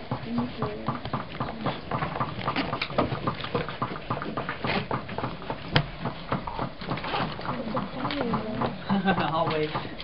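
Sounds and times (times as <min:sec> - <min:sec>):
pens tapping and scratching on paper: 0:00.0 - 0:10.0.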